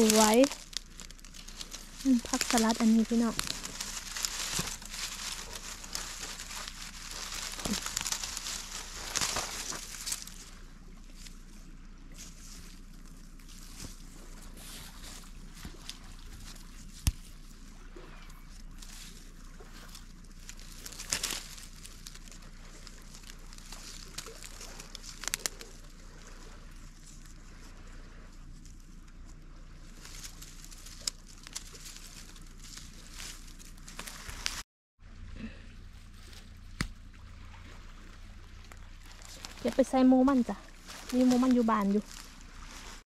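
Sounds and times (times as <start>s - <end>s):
dry grass and leaves rustling: 0.0s - 43.0s.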